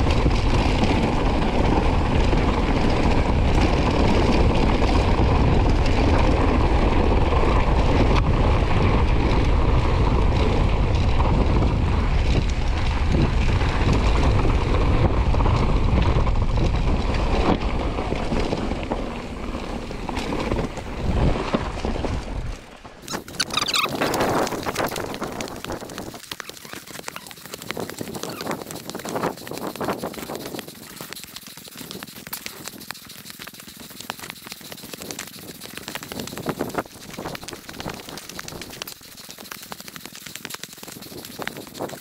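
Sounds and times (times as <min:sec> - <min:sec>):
wind rushing over microphone: 0:00.0 - 0:33.0, 0:33.7 - 0:39.8, 0:40.5 - 0:42.0
bike rattling over rough trail: 0:00.0 - 0:42.0.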